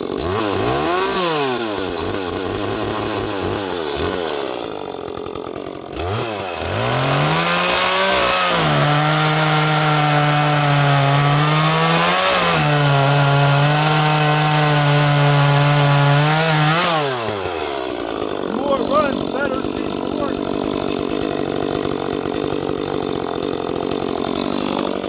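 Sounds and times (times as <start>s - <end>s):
chainsaw cutting through log: 0.0s - 25.0s.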